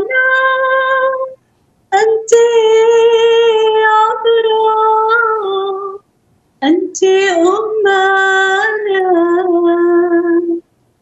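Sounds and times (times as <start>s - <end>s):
woman singing unaccompanied: 0.0s - 10.7s.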